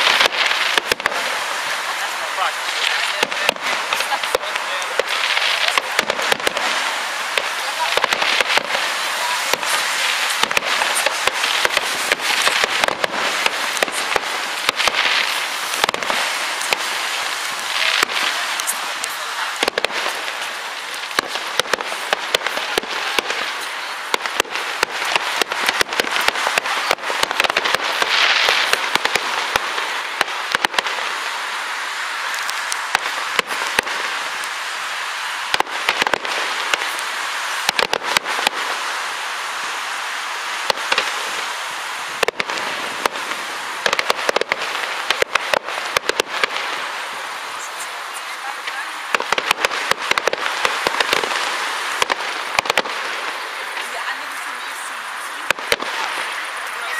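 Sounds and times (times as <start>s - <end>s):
fireworks popping and crackling: 0.0s - 56.9s.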